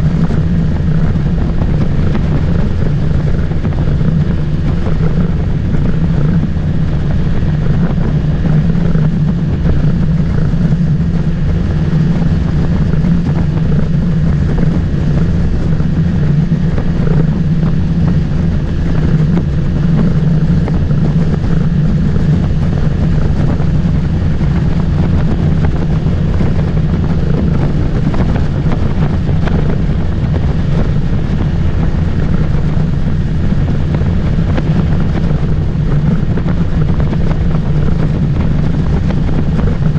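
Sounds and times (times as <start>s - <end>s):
motorboat engine drone: 0.0s - 39.9s
water noise: 0.0s - 39.9s
wind noise: 0.0s - 39.9s.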